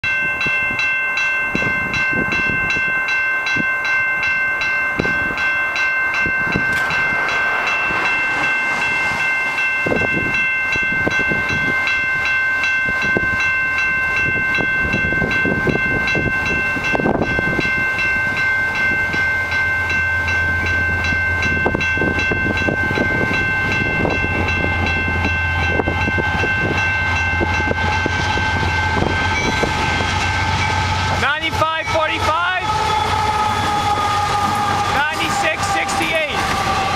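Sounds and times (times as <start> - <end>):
level crossing bell ringing: 0.0 - 32.7
diesel locomotive rumble: 0.3 - 36.9.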